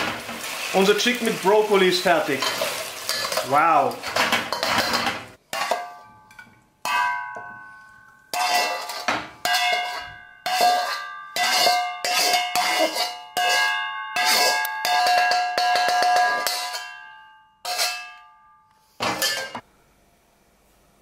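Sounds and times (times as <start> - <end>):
spatula knocking and scraping wok: 0.0 - 18.3, 18.9 - 19.6
wok ringing: 0.0 - 19.6.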